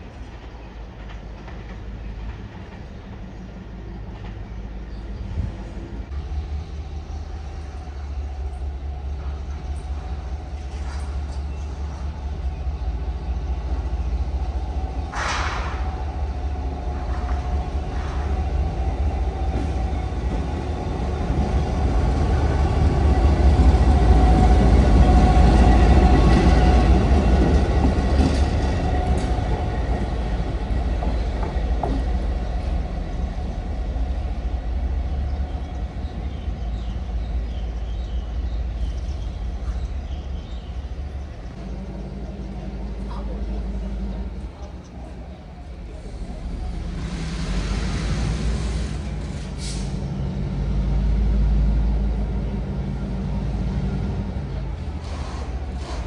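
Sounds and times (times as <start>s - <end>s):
train rumble and wheel rattle: 0.0s - 56.0s.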